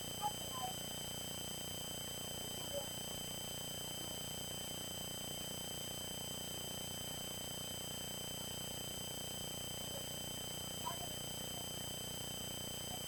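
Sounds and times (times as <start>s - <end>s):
electronic hum and whine: 0.0s - 13.0s.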